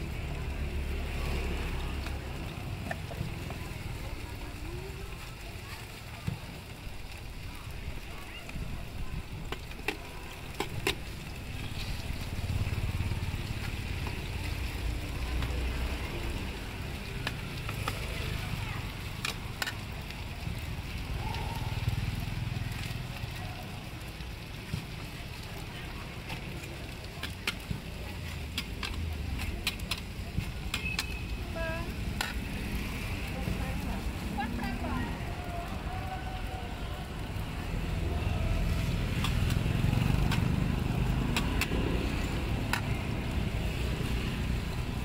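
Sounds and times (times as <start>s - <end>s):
faint sizzle of frying: 0.0s - 45.0s
low traffic rumble: 0.0s - 45.0s
street background hum: 0.0s - 45.0s.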